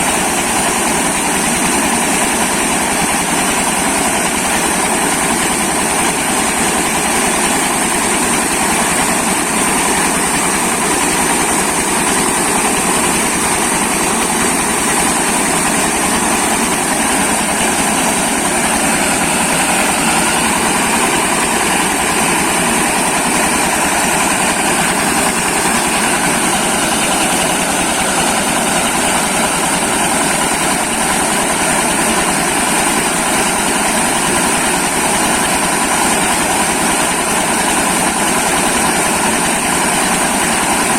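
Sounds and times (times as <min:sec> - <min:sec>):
corn milling machine running: 0:00.0 - 0:40.9.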